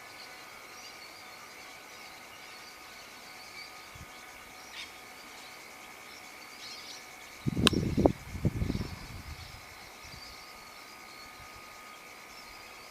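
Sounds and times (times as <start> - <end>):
insects chirring: 0.0 - 12.9.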